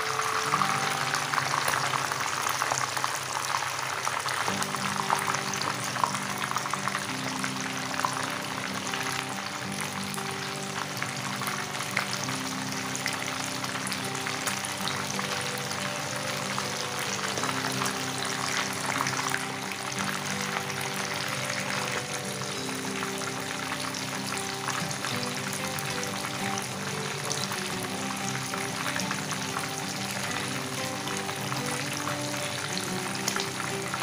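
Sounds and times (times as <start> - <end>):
background music: 0.0 - 34.0
oil sizzling and popping: 0.0 - 34.0.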